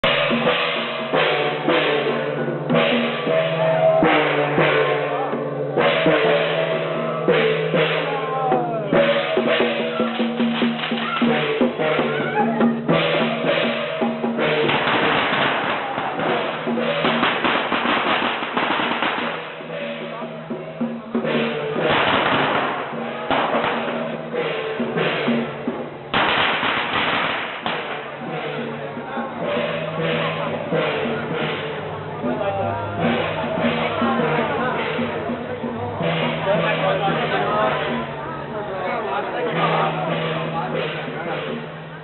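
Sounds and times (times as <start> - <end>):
drums beating rapidly: 0.0 - 42.0.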